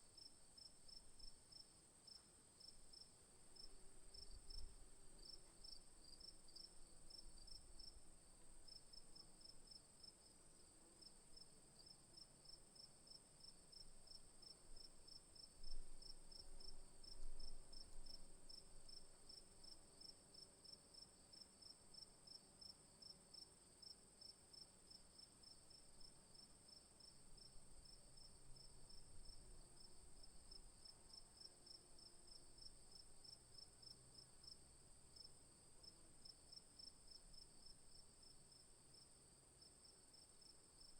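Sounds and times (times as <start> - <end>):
faint insects chirping: 0.0 - 40.9.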